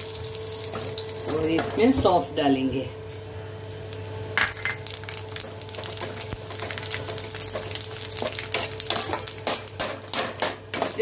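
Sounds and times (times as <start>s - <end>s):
spices crackling in hot oil: 0.0s - 11.0s.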